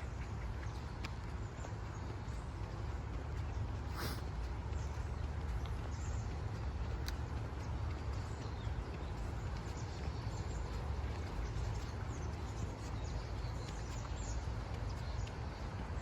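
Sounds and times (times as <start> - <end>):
footsteps on forest path: 0.0 - 16.0
small birds chirping: 0.0 - 16.0
steady low rumble: 0.0 - 16.0.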